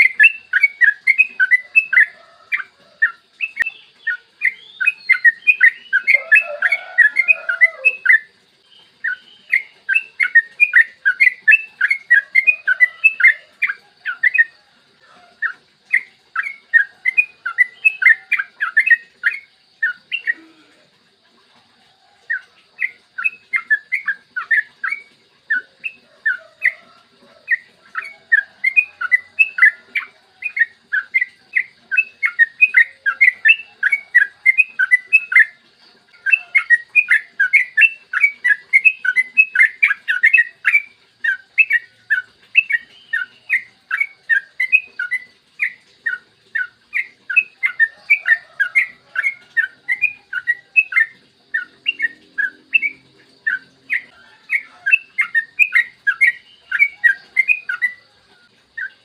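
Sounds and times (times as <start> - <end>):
bird singing bubbly notes: 0.0 - 59.0.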